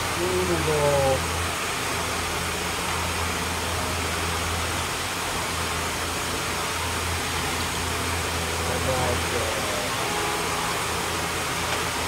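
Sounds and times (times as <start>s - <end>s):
low steady drone: 0.0s - 12.0s
machine hum and hiss: 0.0s - 12.0s.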